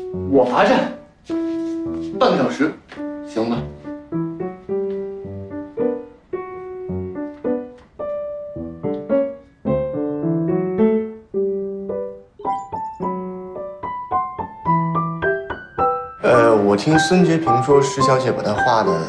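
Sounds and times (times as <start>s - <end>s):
light piano melody: 0.0s - 19.0s.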